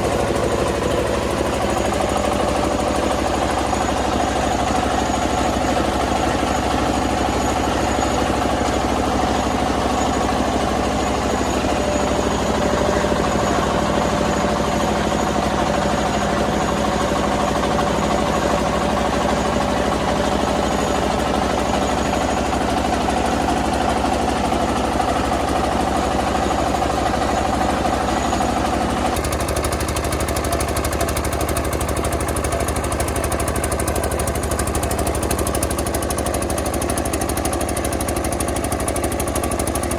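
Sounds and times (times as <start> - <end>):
rice milling machine droning: 0.0 - 39.9.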